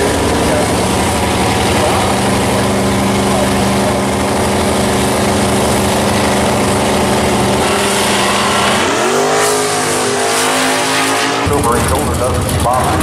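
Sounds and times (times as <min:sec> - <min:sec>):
drag racing engines revving: 0:00.0 - 0:13.0.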